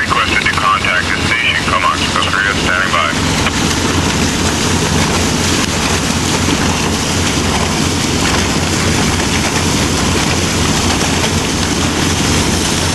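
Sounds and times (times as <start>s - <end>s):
low engine hum: 0.0s - 12.9s
water rushing past hull: 0.0s - 12.9s.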